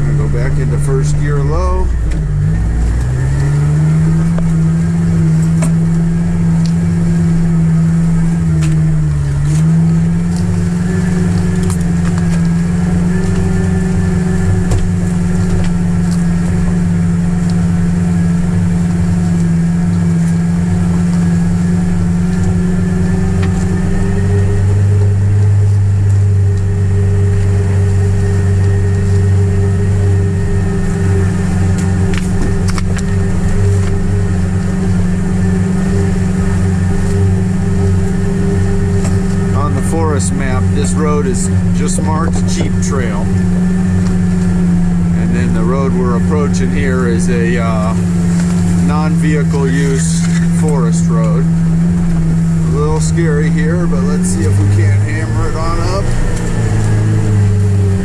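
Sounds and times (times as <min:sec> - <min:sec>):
car engine pulling uphill: 0:00.0 - 0:58.0.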